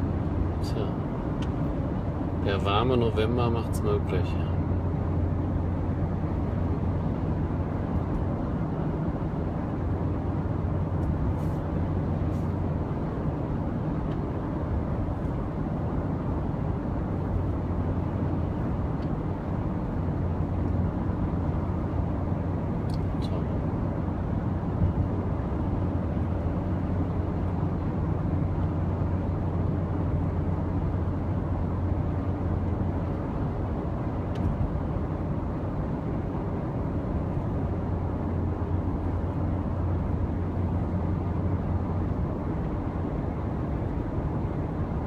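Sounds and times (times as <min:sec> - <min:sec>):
car road noise from inside: 0:00.0 - 0:45.0.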